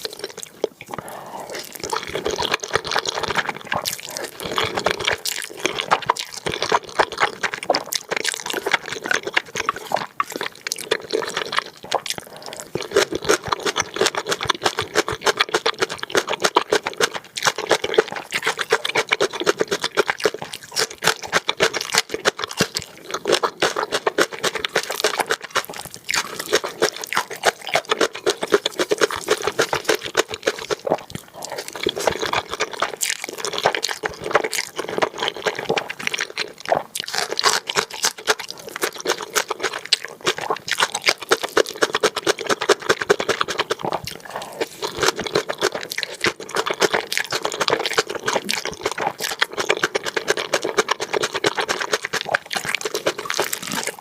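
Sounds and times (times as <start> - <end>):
chewing and slurping noodles: 0.0 - 54.0.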